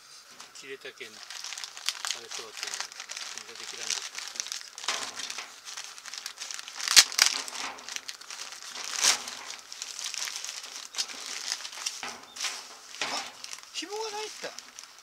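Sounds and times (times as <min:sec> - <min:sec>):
plastic bag crinkling: 0:00.4 - 0:15.0.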